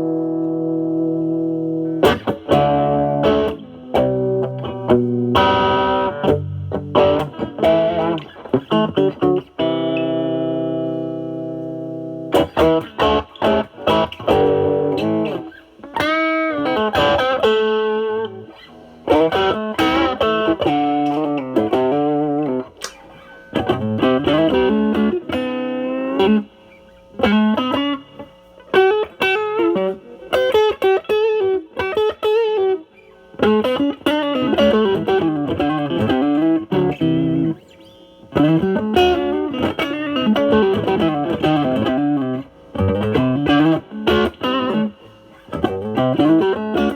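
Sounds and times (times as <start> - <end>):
overdriven electric guitar lead: 0.0 - 46.9.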